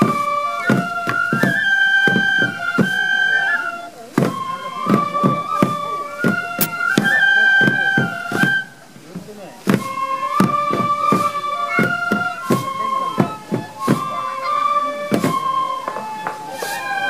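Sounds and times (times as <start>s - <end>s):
bamboo flutes playing: 0.0s - 17.0s
waist drum strokes: 0.0s - 17.0s.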